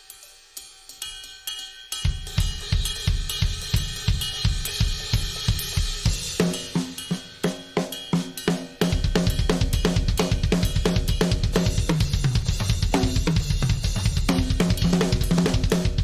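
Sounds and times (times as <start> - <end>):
drum kit playing: 2.0 - 16.0.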